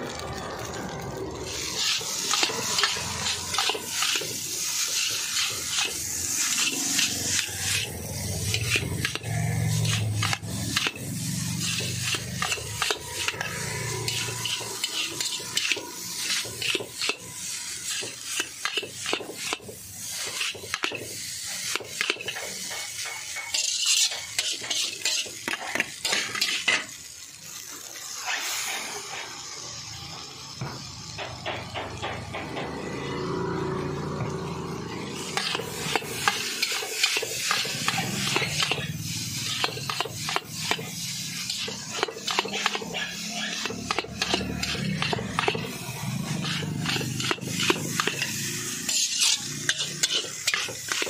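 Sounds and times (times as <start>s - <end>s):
metal tongs clanking on a wok: 1.5s - 28.9s, 35.2s - 51.0s.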